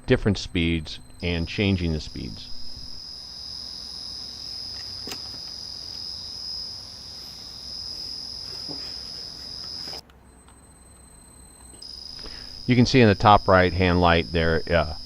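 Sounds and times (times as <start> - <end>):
electric motor high-pitched whine: 0.0 - 15.0
faint low hum: 0.0 - 15.0.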